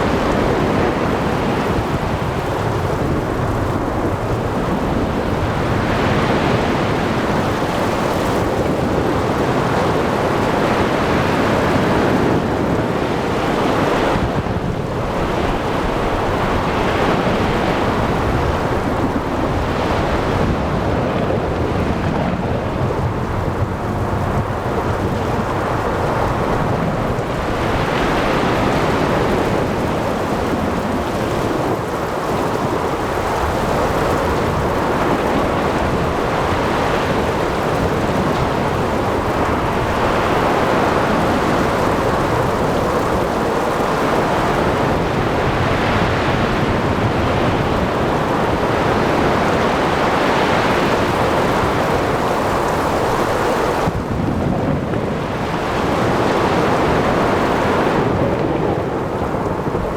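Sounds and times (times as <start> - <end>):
heavy rain: 0.0 - 59.9
wind: 0.0 - 59.9.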